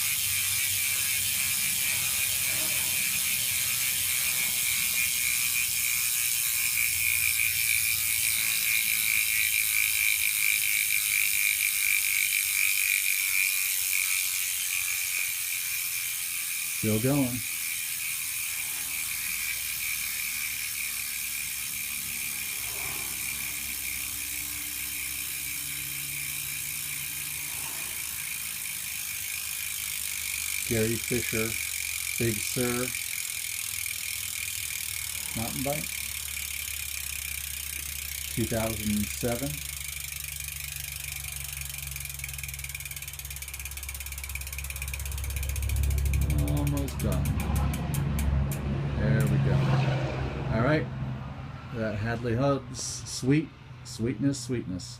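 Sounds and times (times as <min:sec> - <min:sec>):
bicycle freehub ratcheting whir: 0:00.0 - 0:54.9.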